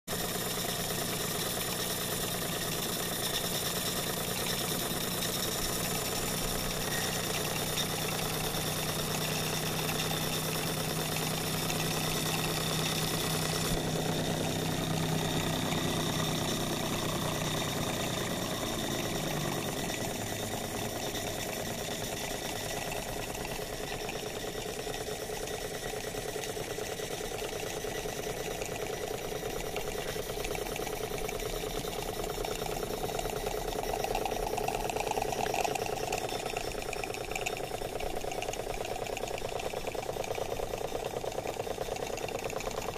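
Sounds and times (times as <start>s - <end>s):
low hum: 0.1s - 40.7s
model steam engines running: 0.1s - 42.9s.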